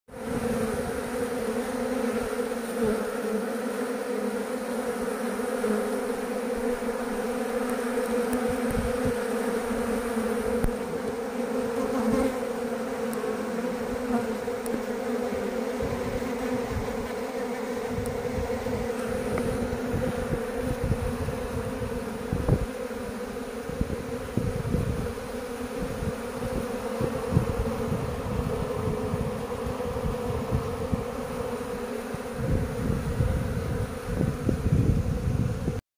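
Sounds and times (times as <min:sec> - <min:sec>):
bees buzzing: 0:00.1 - 0:35.8.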